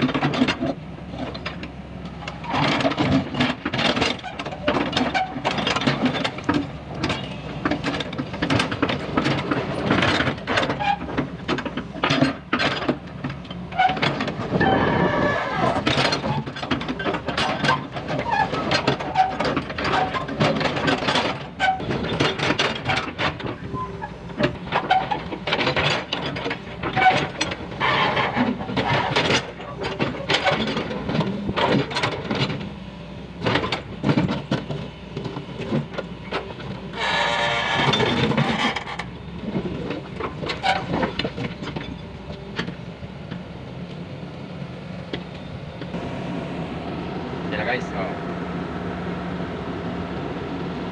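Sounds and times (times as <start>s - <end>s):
excavator engine running: 0.0s - 50.9s.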